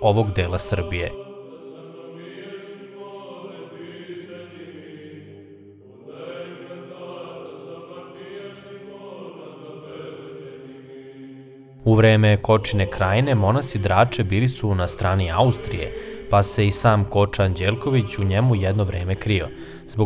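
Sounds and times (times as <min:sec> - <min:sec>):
slow sung chant: 0:00.0 - 0:20.0.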